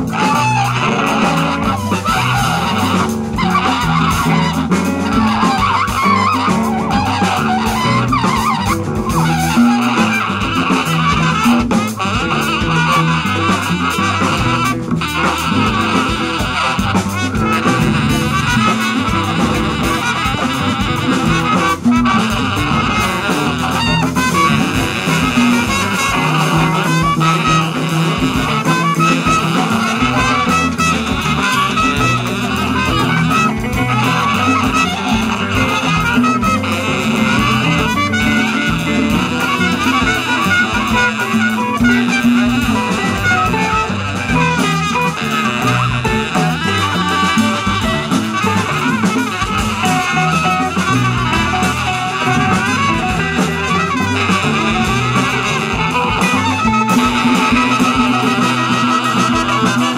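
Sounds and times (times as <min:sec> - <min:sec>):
baritone saxophone: 0:00.0 - 0:59.9
drum hits: 0:00.0 - 0:59.9
live jazz band playing: 0:00.0 - 0:59.9.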